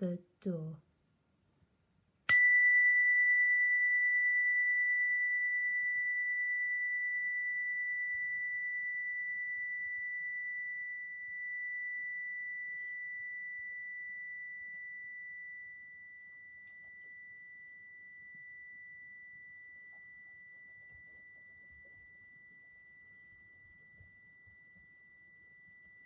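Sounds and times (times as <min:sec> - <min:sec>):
meditation chime ringing: 0:02.3 - 0:26.0.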